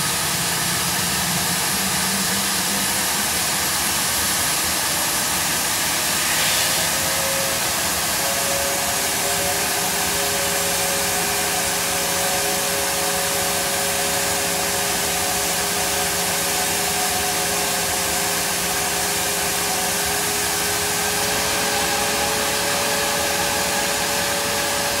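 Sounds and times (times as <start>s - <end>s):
jet engine hiss: 0.0s - 25.0s.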